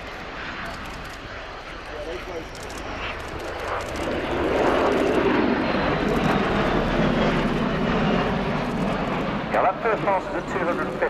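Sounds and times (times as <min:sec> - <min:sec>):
tiltrotor aircraft passing: 0:00.0 - 0:11.0.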